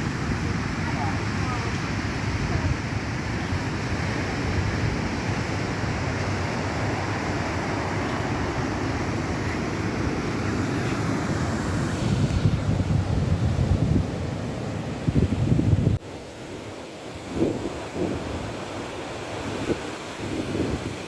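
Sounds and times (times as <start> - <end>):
wind buffeting microphone: 0.0 - 16.0, 17.1 - 21.0
sea surf washing: 0.0 - 21.0.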